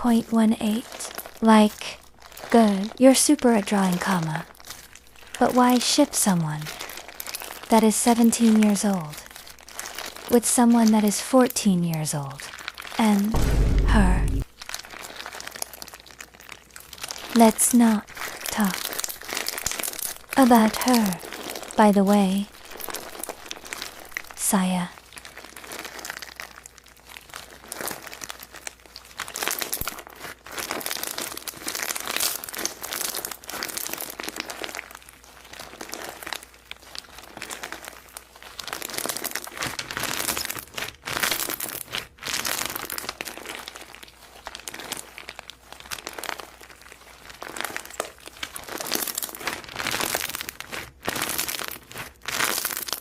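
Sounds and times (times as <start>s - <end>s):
slime squished by hand: 0.4s - 5.8s, 6.5s - 11.1s, 12.4s - 53.0s.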